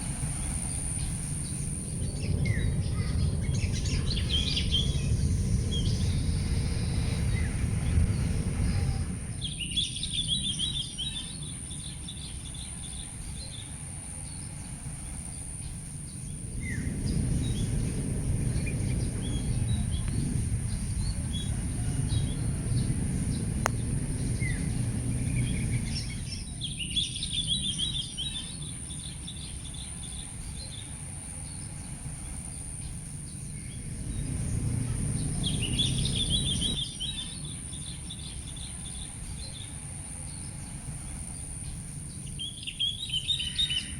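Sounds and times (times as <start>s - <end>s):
low rumble: 0.0s - 43.9s
small birds chirping: 0.0s - 43.9s
steady high-pitched whine: 0.0s - 43.9s.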